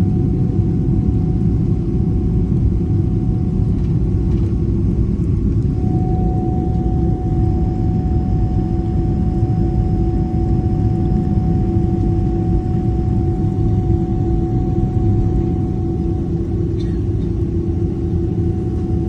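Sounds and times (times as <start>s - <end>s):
jet engine rumble in cabin: 0.0s - 19.0s
jet engine whine: 0.0s - 19.0s.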